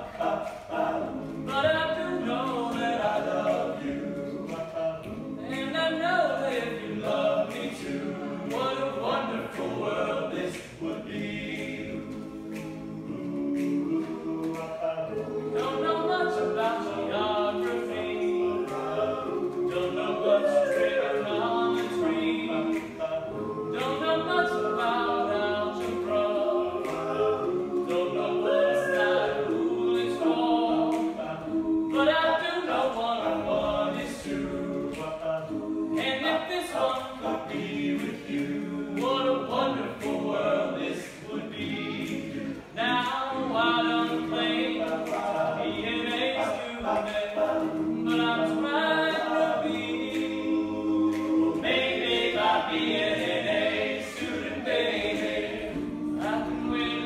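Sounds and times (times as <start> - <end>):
male a cappella group singing: 0.0 - 57.0.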